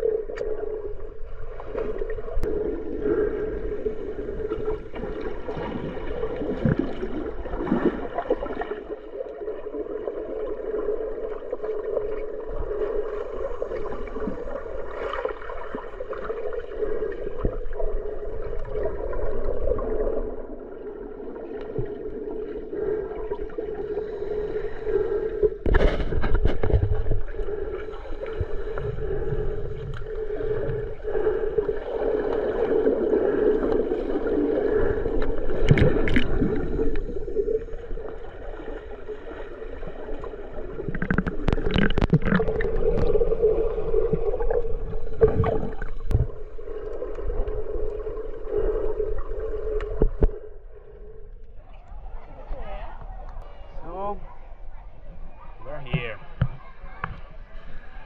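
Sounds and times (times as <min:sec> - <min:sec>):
water gurgling and sloshing: 0:00.0 - 0:58.0.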